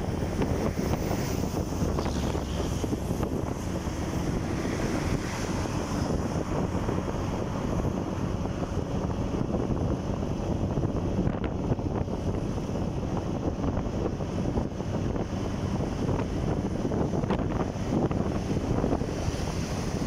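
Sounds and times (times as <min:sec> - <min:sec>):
motorcycle engine and road noise: 0:00.0 - 0:20.0
wind buffeting microphone: 0:00.0 - 0:20.0.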